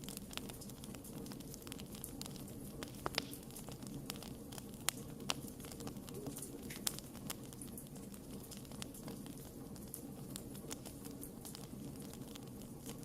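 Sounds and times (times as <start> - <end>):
burning wood crackling and popping: 0.0 - 13.0
campfire hiss and rumble: 0.0 - 13.0.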